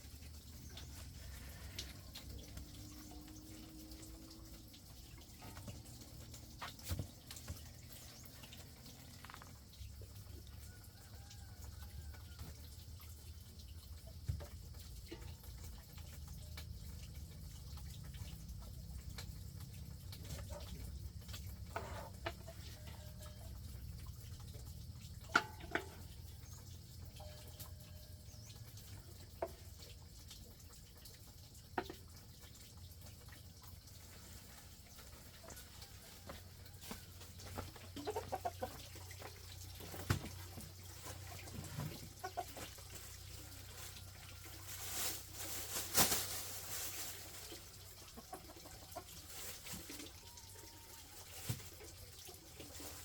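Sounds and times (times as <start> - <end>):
water dripping and trickling: 0.0 - 53.0.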